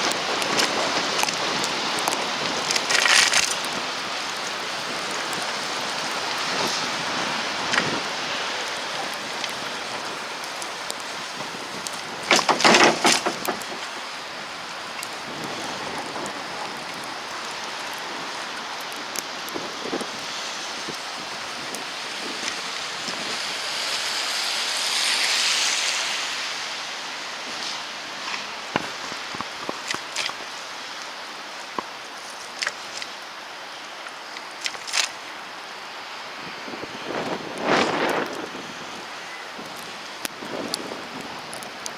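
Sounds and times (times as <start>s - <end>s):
loud crackling burst: 0.0s - 41.9s
snowstorm hiss: 0.0s - 41.9s
wet traffic noise: 0.0s - 41.9s
wind: 0.0s - 41.9s.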